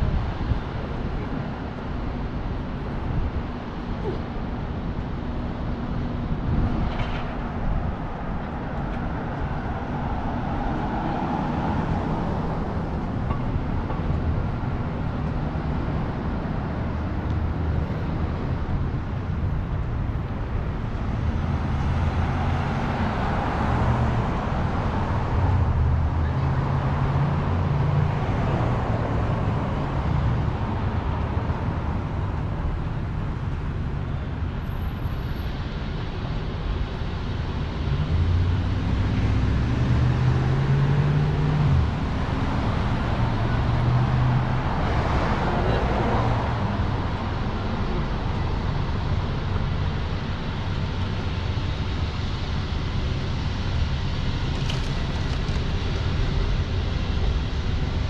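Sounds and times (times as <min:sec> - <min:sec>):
vehicle engines humming: 0:00.0 - 0:58.0.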